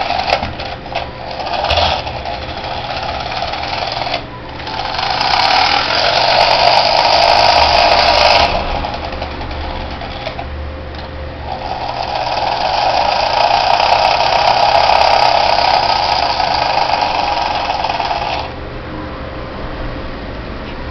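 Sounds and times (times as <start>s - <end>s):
toy helicopter motor whirring: 0.0s - 10.4s, 11.5s - 18.5s.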